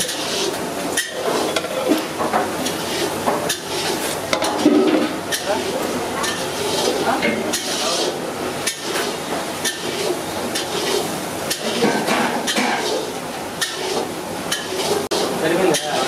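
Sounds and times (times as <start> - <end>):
cooking noise: 0.0 - 16.0
metal ladle scraping cooking pot: 0.0 - 16.0.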